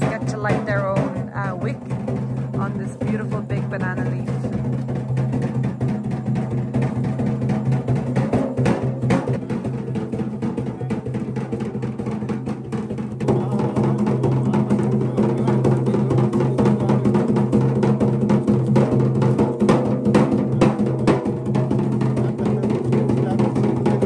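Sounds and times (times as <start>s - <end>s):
hand drum fast rhythm: 0.0s - 24.0s.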